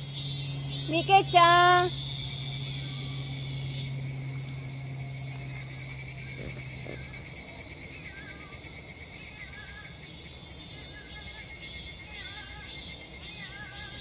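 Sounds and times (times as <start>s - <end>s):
cicadas droning: 0.0s - 14.0s
low steady hum: 0.0s - 14.0s.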